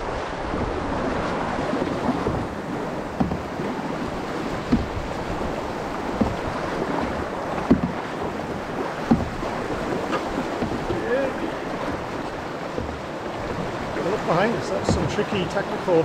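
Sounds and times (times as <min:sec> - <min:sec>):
wind on microphone: 0:00.0 - 0:15.3
paddle splash: 0:00.0 - 0:16.0
rushing river rapids: 0:00.0 - 0:16.0.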